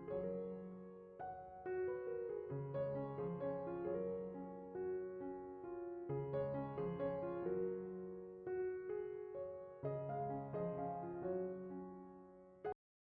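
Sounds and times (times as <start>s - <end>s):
slow piano music: 0.0s - 12.8s.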